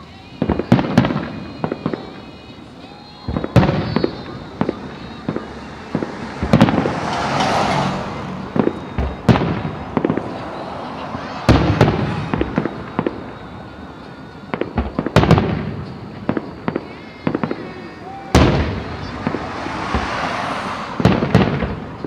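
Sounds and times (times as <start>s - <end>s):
fireworks bangs with rumbling echo: 0.3s - 20.3s, 21.0s - 22.0s.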